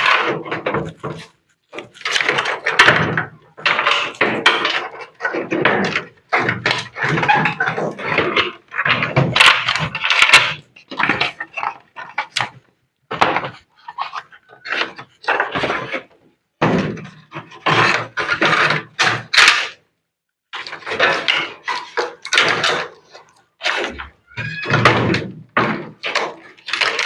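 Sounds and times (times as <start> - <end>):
metal parts knocking and rattling: 0.0 - 19.7, 20.6 - 27.0.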